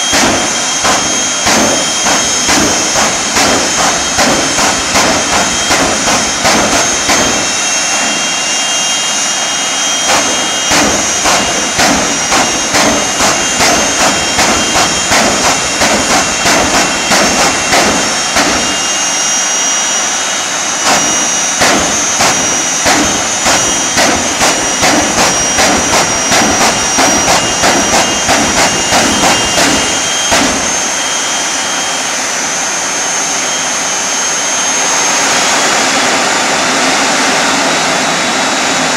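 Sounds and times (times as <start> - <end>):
jet engine whine and rush: 0.0 - 38.9.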